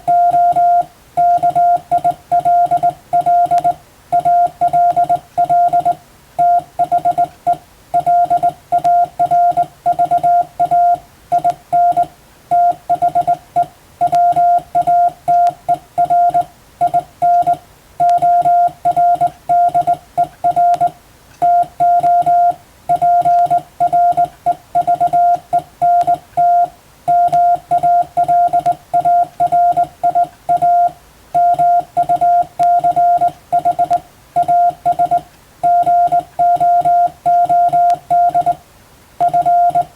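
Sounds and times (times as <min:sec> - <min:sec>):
morse code beeps: 0:00.0 - 0:38.6, 0:39.2 - 0:39.9.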